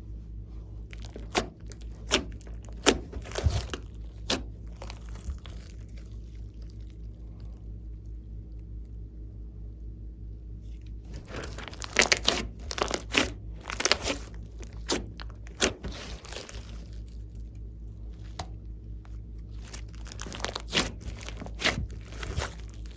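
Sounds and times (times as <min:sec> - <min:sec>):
steady low hum: 0:00.0 - 0:22.9
slime squished crackling and popping: 0:00.9 - 0:07.6, 0:10.7 - 0:22.9.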